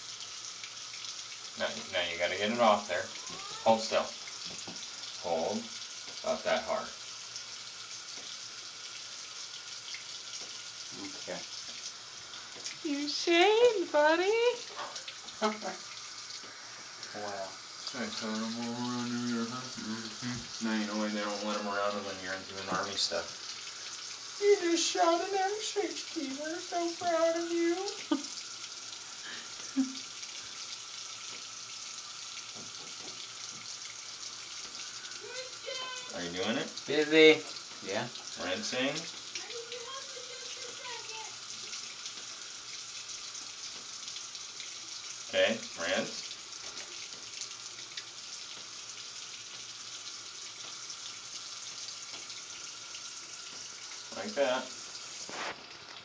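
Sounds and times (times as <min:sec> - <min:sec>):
tap water running: 0:00.0 - 0:56.0.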